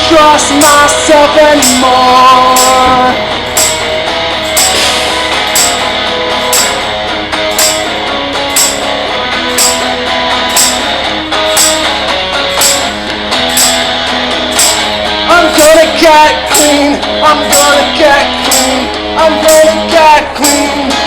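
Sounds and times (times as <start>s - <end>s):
fuzzed electric guitar riff: 0.0s - 21.0s
tambourine strikes: 0.5s - 21.0s.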